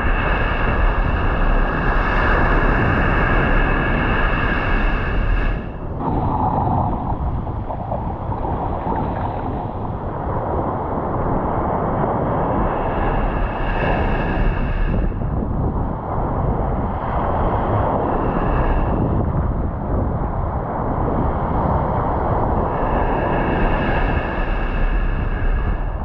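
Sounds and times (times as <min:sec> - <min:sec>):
surf washing on beach: 0:00.0 - 0:20.0, 0:20.7 - 0:25.9
wind on microphone: 0:00.0 - 0:26.0.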